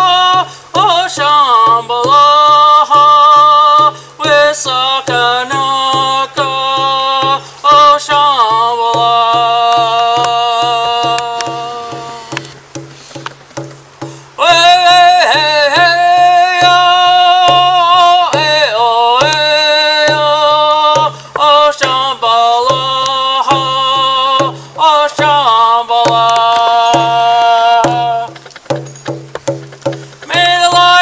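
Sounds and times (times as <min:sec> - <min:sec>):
man chanting in long notes: 0:00.0 - 0:12.5, 0:14.4 - 0:28.4, 0:30.2 - 0:31.0
steady drumbeat: 0:00.0 - 0:31.0.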